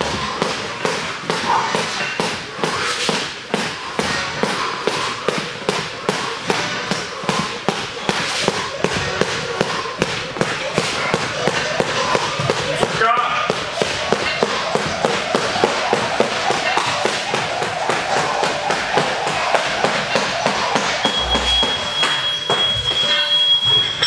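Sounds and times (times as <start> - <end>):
skipping rope slapping mat: 0.0 - 23.1.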